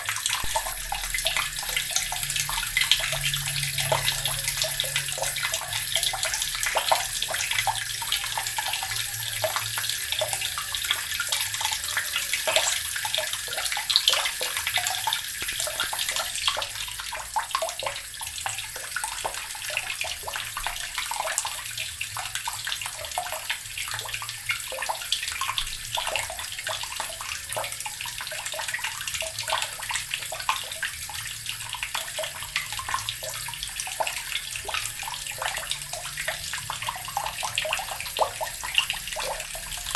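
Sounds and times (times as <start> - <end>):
tap water splashing into basin: 0.0 - 39.9.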